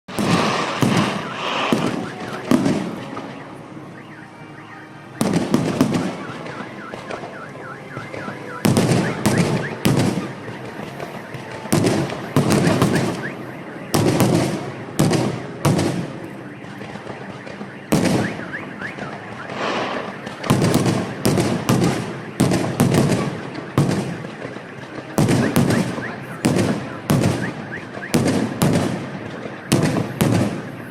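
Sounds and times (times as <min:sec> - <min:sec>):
fireworks bangs: 0:00.1 - 0:04.1, 0:05.0 - 0:30.9
car alarm wailing: 0:00.1 - 0:30.9.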